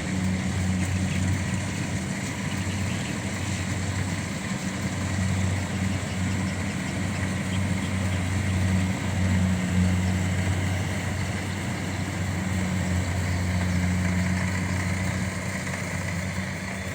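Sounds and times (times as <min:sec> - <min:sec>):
harvester engine humming: 0:00.0 - 0:16.9.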